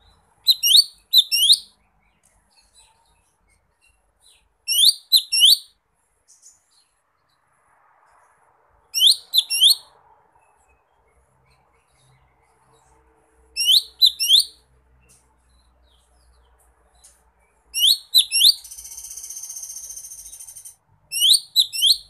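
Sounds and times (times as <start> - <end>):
bird chirping calls: 0.0 - 7.4, 8.8 - 22.0.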